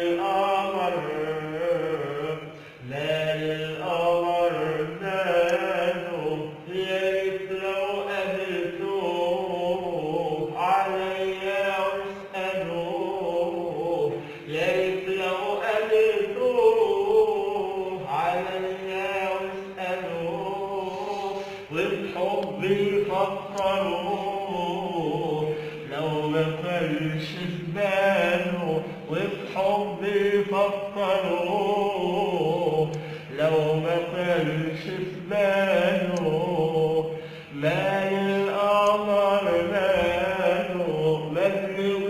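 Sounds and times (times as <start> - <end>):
man singing wordless melody: 0.0 - 42.0.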